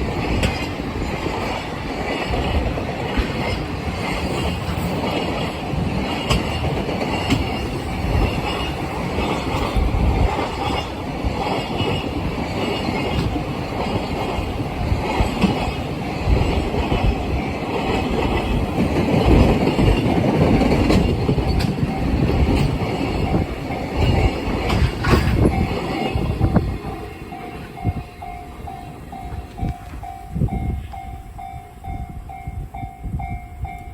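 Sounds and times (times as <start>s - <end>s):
freight train wheels clattering: 0.0s - 33.9s
train wheel squeal: 0.0s - 33.9s.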